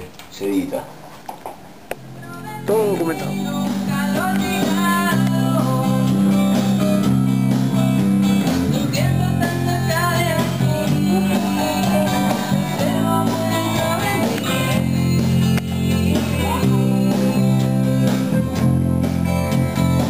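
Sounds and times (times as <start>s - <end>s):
electric bass line: 2.0s - 20.0s
music with other instruments: 2.1s - 20.0s.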